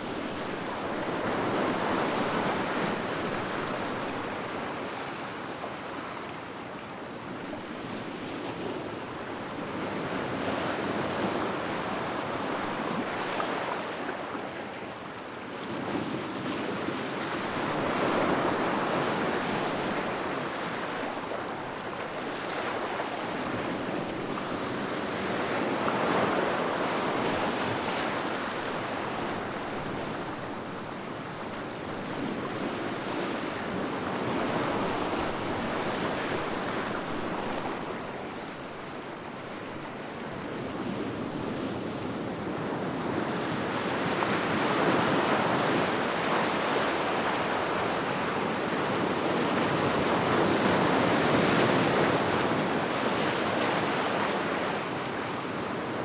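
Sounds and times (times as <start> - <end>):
sea waves breaking on shore: 0.0 - 6.9, 15.6 - 56.0.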